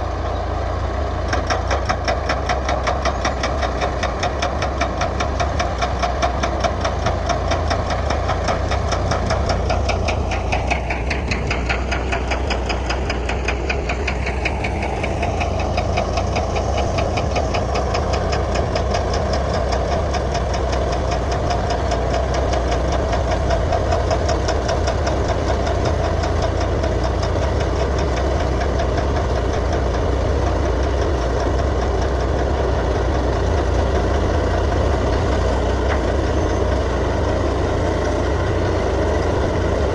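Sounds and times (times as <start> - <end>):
bulldozer diesel engine clattering: 0.0 - 39.9.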